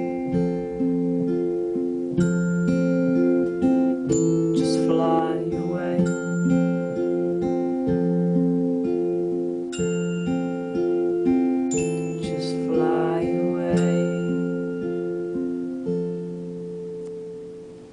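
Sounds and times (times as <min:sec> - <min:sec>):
acoustic guitar picking: 0:00.0 - 0:17.9.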